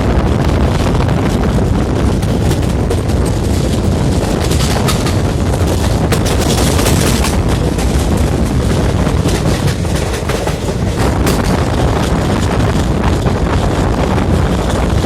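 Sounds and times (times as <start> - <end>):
train rumbling and rattling: 0.0 - 15.0
wind buffeting microphone: 0.0 - 15.0.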